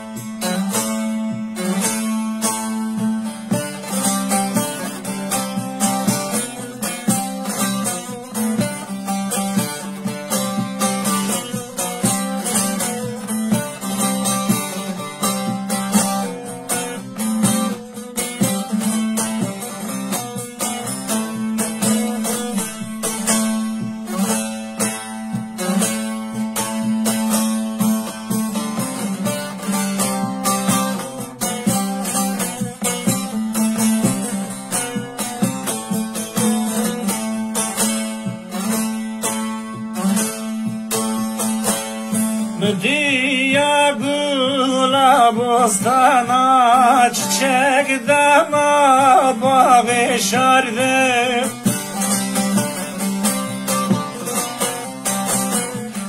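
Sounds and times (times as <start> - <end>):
plucked long-necked lute melody: 0.0 - 56.0.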